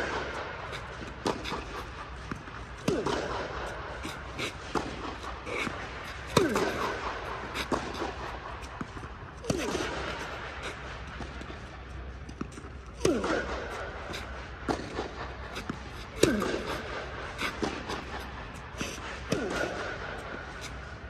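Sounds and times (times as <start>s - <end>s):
racquet striking tennis ball: 0.0s - 11.7s, 12.3s - 20.8s.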